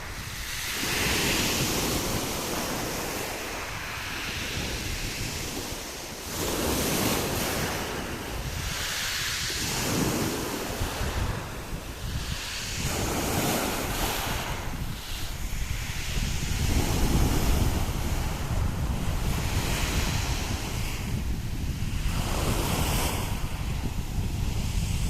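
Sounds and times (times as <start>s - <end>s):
sea waves washing ashore: 0.0s - 25.0s
wind buffeting microphone: 0.0s - 25.0s.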